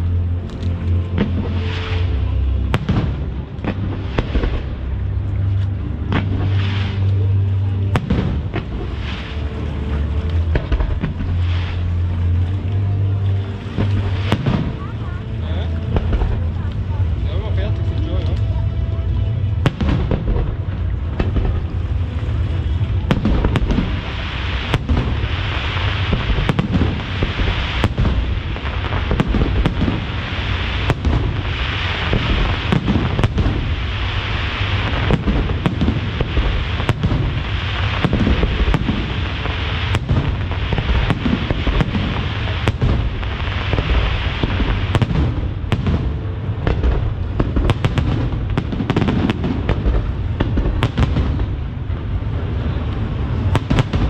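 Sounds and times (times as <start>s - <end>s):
low rumble of booms: 0.0s - 54.0s
fireworks bursting with sharp bangs: 0.4s - 12.4s, 13.4s - 54.0s.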